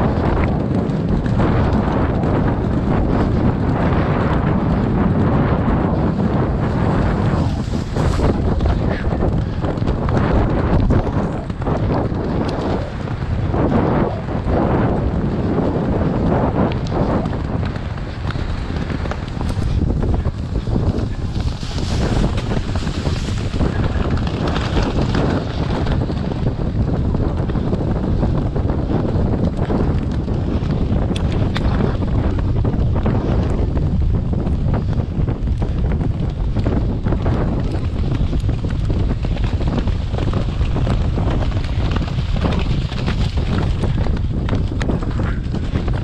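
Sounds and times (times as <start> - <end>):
galloping horse hooves: 0.0 - 46.0
wind buffeting microphone: 0.0 - 46.0.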